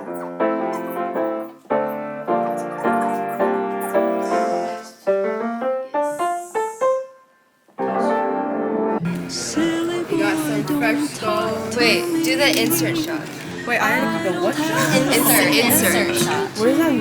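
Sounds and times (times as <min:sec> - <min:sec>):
piano music: 0:00.0 - 0:07.2, 0:07.8 - 0:17.0.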